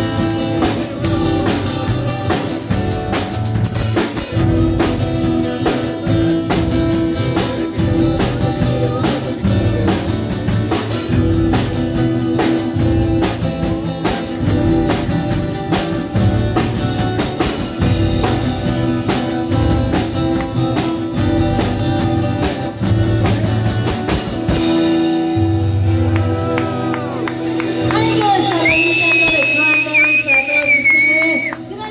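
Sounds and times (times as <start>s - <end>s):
sustained bass line: 0.0s - 28.8s
drum kit beat: 0.0s - 31.8s
guitar: 0.0s - 31.9s.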